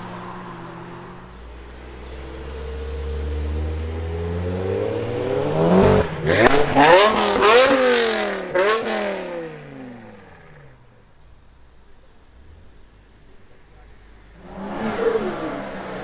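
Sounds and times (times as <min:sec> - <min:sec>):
car engine revving: 0:00.0 - 0:10.8, 0:12.3 - 0:16.0.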